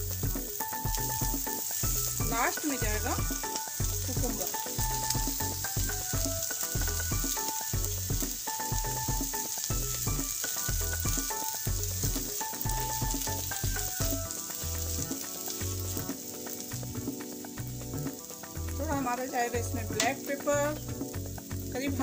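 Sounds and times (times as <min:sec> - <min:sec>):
background music with a beat: 0:00.0 - 0:22.0
vegetables sizzling in a pan: 0:00.0 - 0:22.0
spatula stirring: 0:00.1 - 0:18.2.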